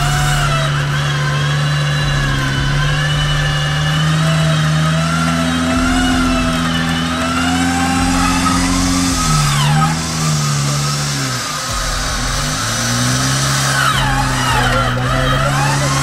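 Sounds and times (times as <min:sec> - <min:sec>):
car engine running under load: 0:00.0 - 0:16.0
electric winch whining: 0:00.0 - 0:16.0.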